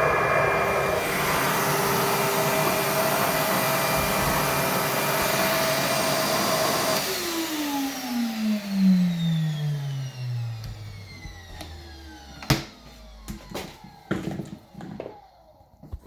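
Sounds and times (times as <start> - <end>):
vacuum running: 0.0 - 16.0.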